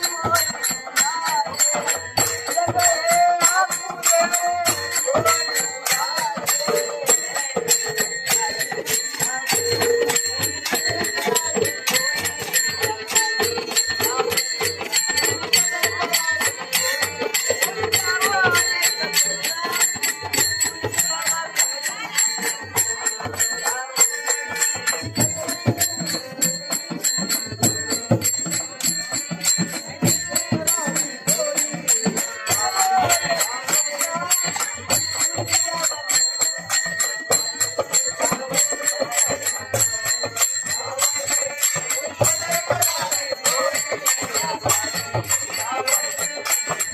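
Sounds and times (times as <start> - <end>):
rapid percussion strokes: 0.0 - 46.9
small bells jingling: 0.0 - 46.9.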